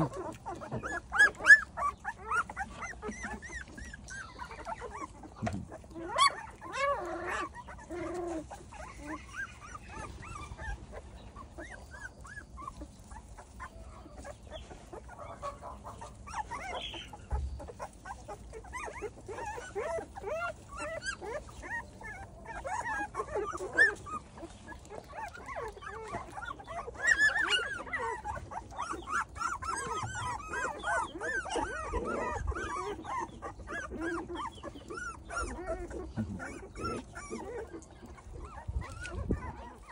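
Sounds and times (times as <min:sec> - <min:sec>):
puppies whimpering and squeaking: 0:00.0 - 0:39.9.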